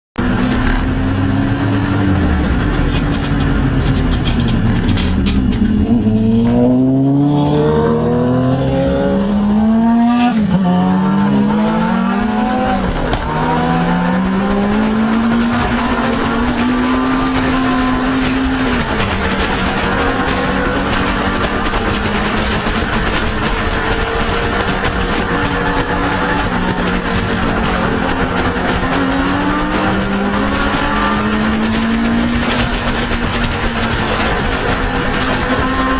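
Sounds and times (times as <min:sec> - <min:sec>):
motorcycle engine accelerating: 0:00.2 - 0:35.9
wind rushing: 0:00.2 - 0:35.9.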